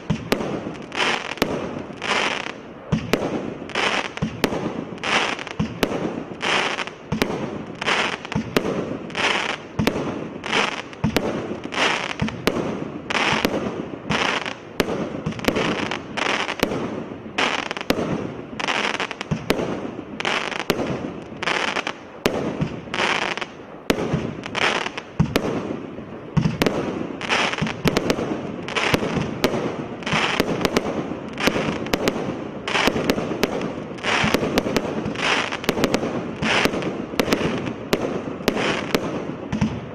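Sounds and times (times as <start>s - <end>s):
firework shots crackling: 0.0s - 39.9s.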